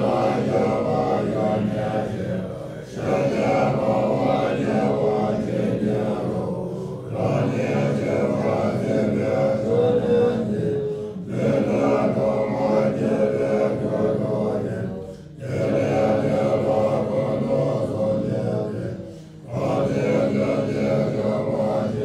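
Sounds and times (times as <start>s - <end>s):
choral chant: 0.0s - 22.0s.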